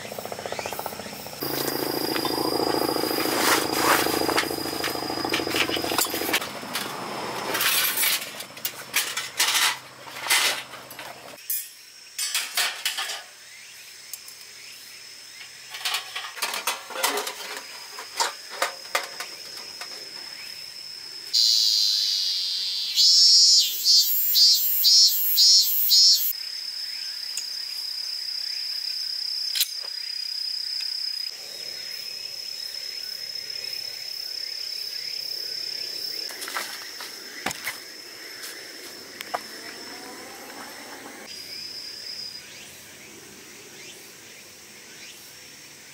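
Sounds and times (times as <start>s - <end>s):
cicadas singing: 0.0s - 45.9s.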